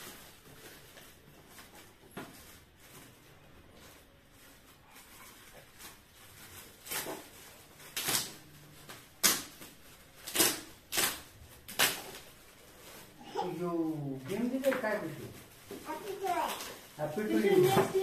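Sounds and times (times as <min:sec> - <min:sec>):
metallic gift wrap crinkling: 0:00.0 - 0:18.0.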